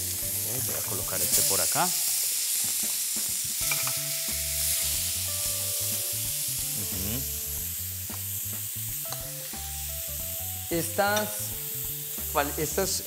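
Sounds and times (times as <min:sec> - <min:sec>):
fish sizzling in a hot pan: 0:00.0 - 0:13.0.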